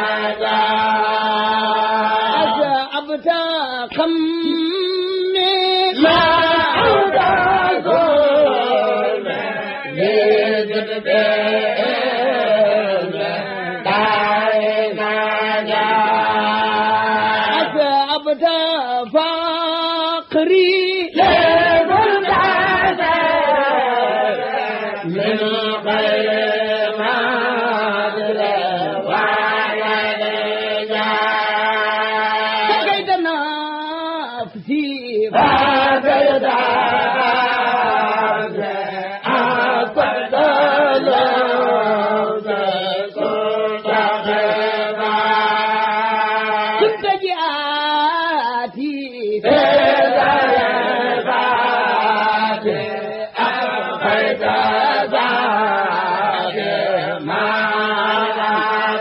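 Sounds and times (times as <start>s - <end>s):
person chanting devotional poem: 0.0s - 59.0s.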